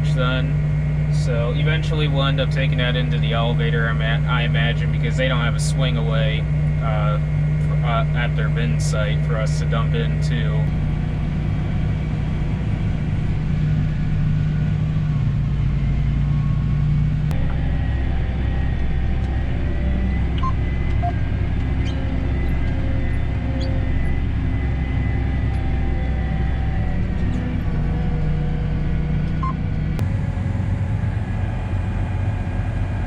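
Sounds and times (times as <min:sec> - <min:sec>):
farm machinery engine droning: 0:00.0 - 0:33.0.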